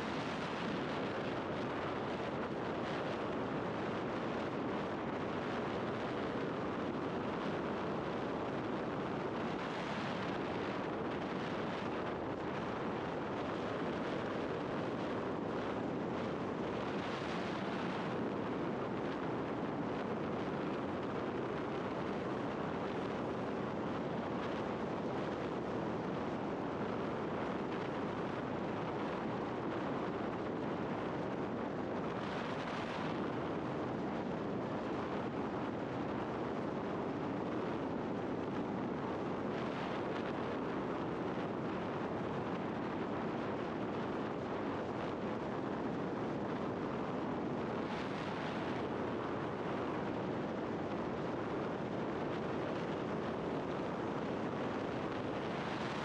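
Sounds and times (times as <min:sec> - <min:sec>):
rushing wind: 0:00.0 - 0:56.0.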